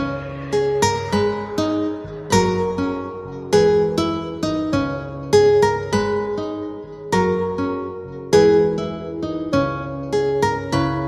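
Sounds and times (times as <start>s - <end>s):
plucked string instrument melody: 0.0s - 11.0s.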